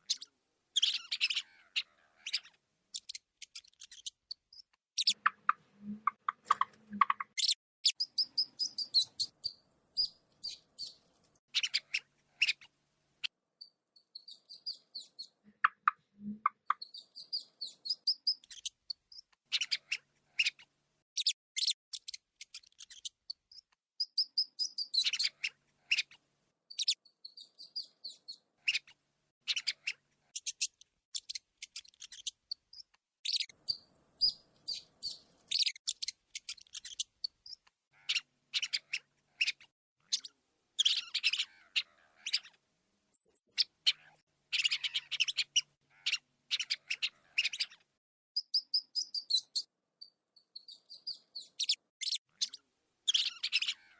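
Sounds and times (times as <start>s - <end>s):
rats squeaking: 0.0s - 12.7s, 13.6s - 20.6s, 21.2s - 26.1s, 26.7s - 28.9s, 29.5s - 47.8s, 48.4s - 53.9s.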